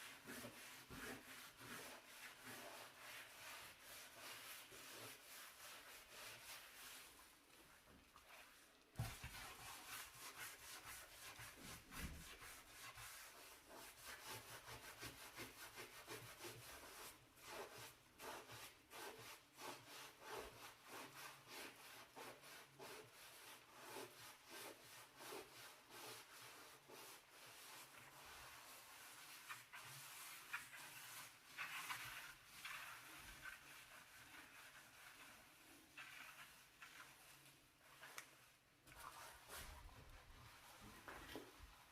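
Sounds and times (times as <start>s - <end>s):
brush scrubbing a stove: 0.0s - 41.9s.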